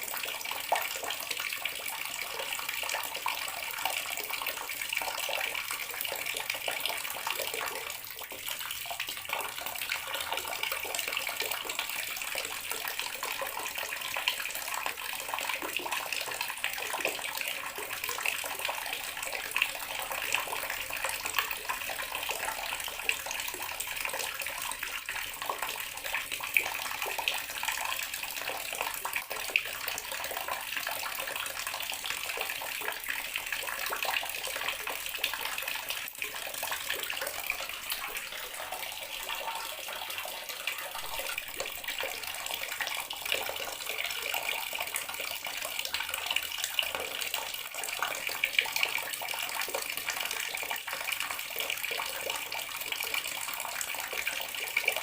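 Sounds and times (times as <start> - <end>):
tap water running into sink: 1.8 - 51.7.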